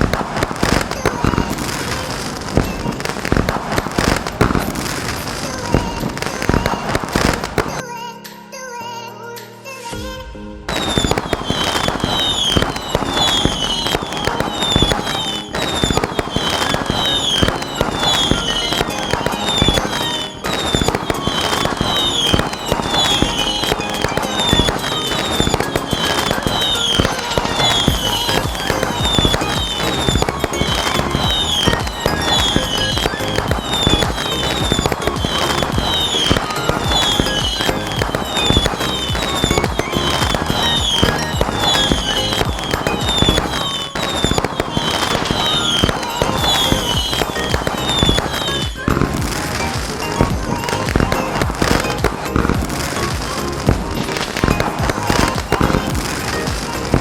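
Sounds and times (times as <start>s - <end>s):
firecrackers crackling: 0.0s - 7.8s, 10.7s - 57.0s.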